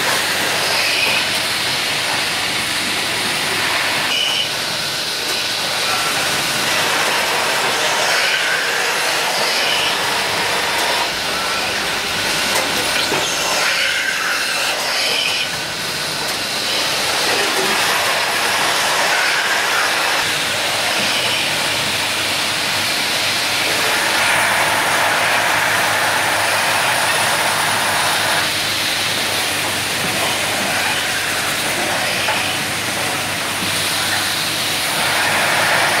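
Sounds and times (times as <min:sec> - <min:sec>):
loud steady machine noise: 0:00.0 - 0:36.0.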